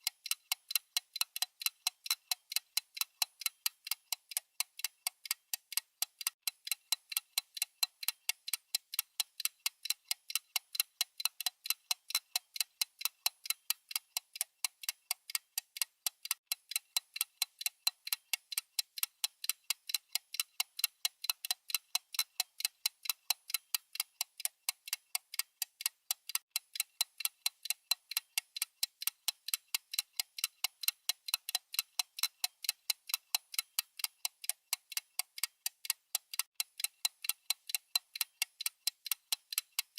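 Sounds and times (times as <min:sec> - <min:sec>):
rapid high-pitched clock ticks: 0:00.0 - 0:39.9.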